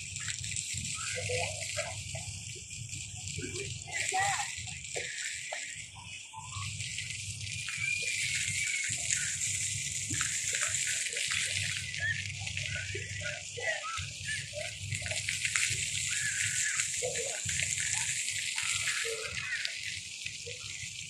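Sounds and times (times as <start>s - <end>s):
water rushing and splashing: 0.0s - 21.0s
faint voices: 0.7s - 20.9s.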